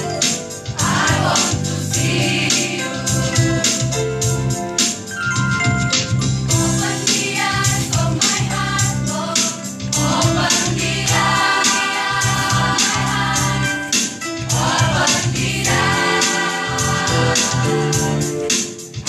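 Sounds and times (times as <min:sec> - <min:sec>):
instrumental accompaniment with beat: 0:00.0 - 0:19.0
choir singing worship song: 0:00.7 - 0:04.0, 0:06.5 - 0:19.0.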